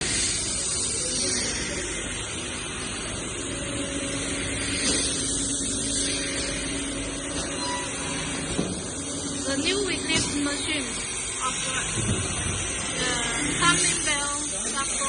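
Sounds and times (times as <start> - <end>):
grinding machine hissing: 0.0 - 15.0.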